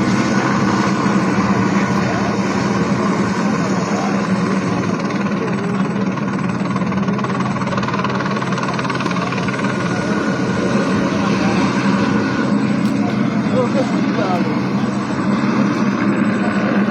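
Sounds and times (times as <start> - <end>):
engine drone: 0.0 - 16.9.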